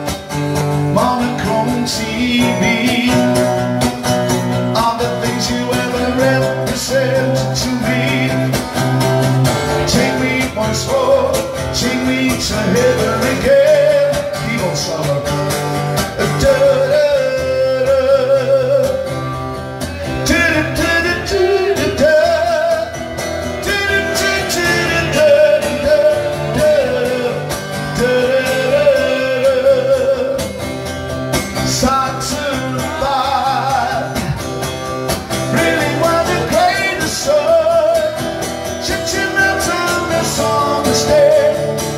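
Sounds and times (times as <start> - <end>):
man singing: 0.0 - 41.9
strummed acoustic guitar: 0.0 - 41.9.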